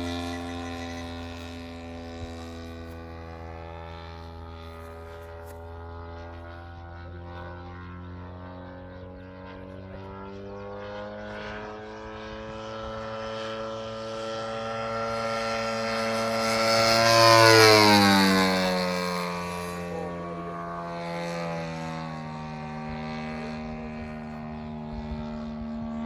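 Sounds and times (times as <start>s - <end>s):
model plane engine passing: 0.0s - 26.0s.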